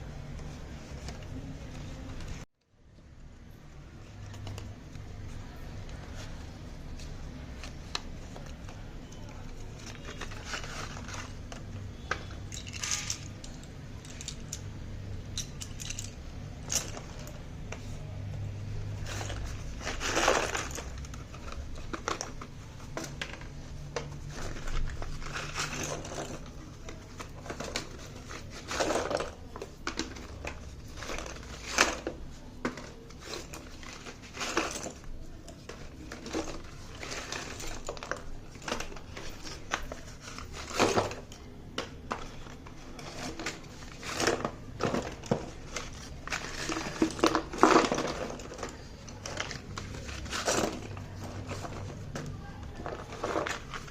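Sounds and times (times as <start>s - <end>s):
packaging crinkling and rustling: 4.0s - 14.6s, 18.8s - 53.9s.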